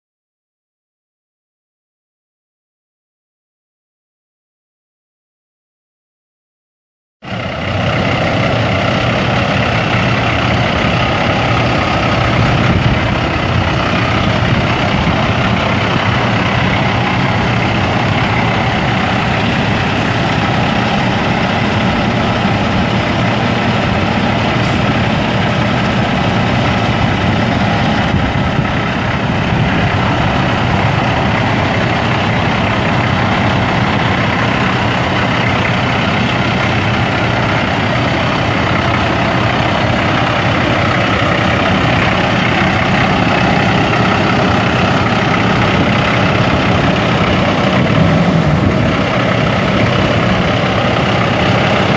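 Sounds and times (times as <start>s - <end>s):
diesel truck engine idling: 7.2s - 51.9s.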